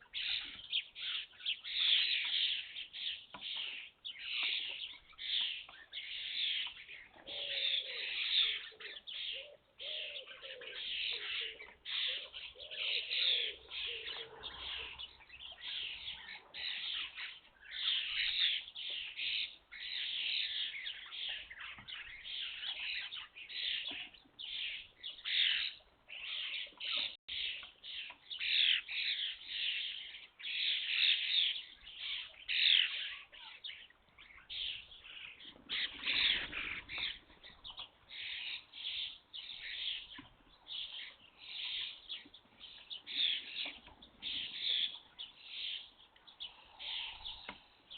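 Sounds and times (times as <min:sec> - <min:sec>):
starlings calling: 0:00.0 - 0:47.9.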